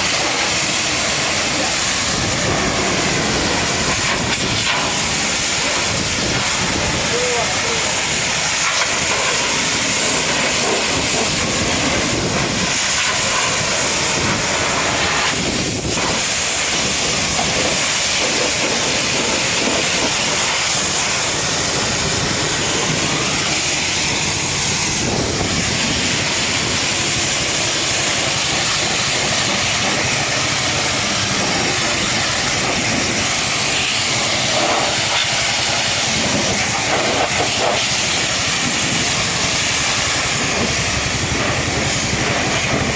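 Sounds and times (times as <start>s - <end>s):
pressure washer spraying hiss: 0.0s - 42.9s.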